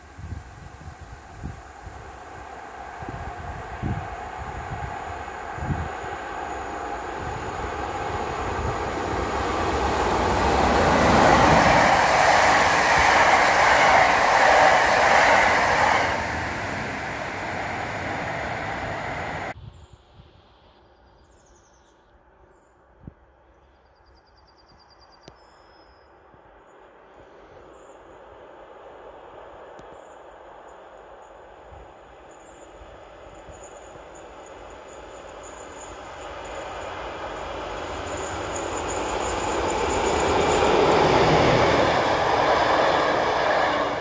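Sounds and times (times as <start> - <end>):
train passing at speed: 0.0 - 19.6, 26.3 - 44.0.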